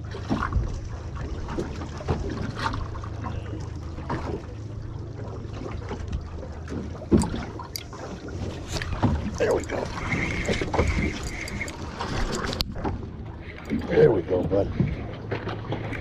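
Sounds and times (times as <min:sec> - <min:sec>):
water slapping against boat hull: 0:00.0 - 0:16.0.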